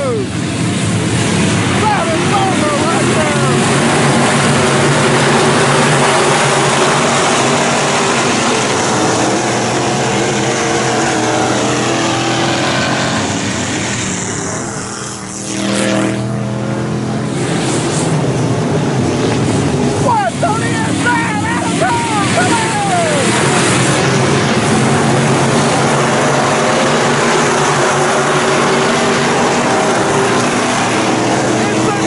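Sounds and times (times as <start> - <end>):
race car engines running hard: 0.0 - 32.0.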